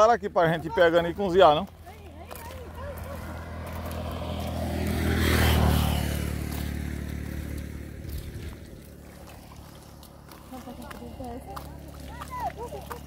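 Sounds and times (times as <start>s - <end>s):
motorcycle passing: 0.0s - 13.0s.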